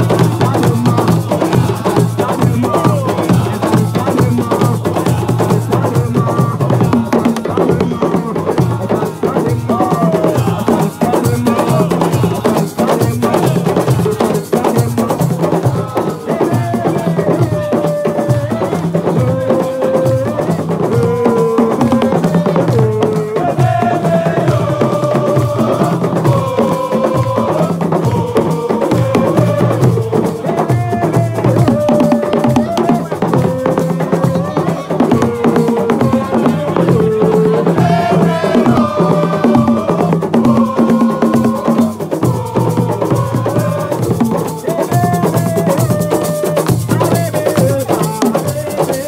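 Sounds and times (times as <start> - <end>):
percussion ensemble drumming: 0.0 - 49.0.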